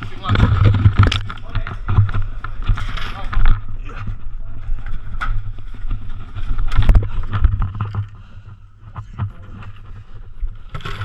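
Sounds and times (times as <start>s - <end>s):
gear knocking and rustling: 0.0s - 11.0s
low rumbling wind: 0.0s - 11.0s.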